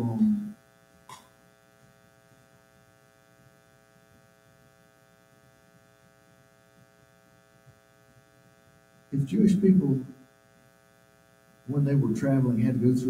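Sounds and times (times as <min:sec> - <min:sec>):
faint buzzy electrical hum: 0:00.0 - 0:13.0.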